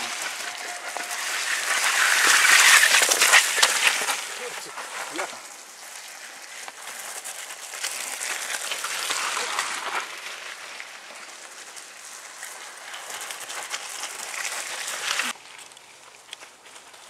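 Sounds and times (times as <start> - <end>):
bike tyres splashing through mud: 0.0 - 15.7.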